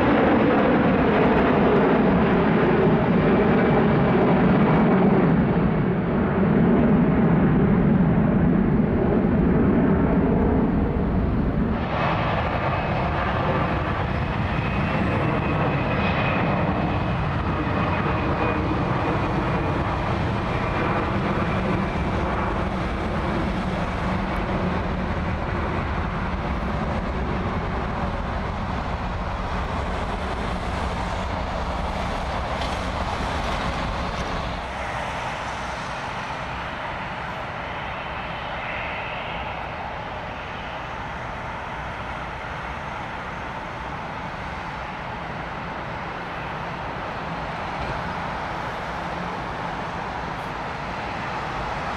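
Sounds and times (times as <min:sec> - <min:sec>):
jet engines rumbling with whine: 0:00.0 - 0:51.9.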